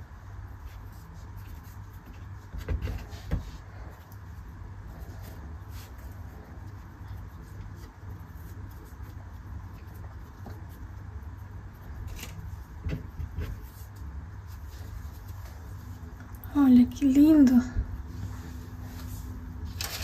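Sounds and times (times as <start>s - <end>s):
hands rubbing dough: 0.0s - 16.3s
steady low hum: 0.0s - 20.0s.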